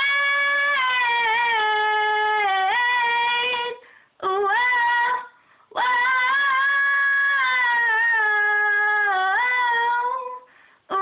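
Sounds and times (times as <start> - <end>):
girl singing unaccompanied: 0.0 - 11.0.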